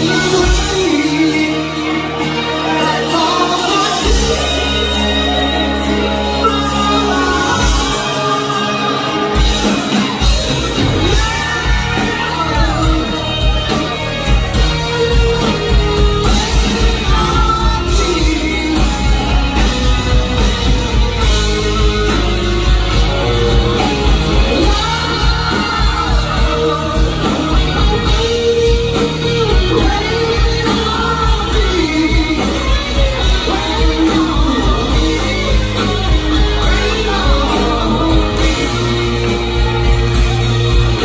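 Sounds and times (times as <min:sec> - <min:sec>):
live rock band playing: 0:00.0 - 0:41.0
person singing: 0:00.0 - 0:41.0.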